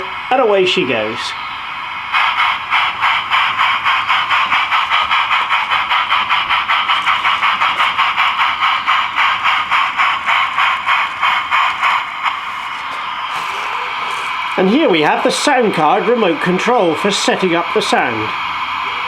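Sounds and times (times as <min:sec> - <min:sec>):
model locomotive steam chuffs: 0:00.0 - 0:19.0.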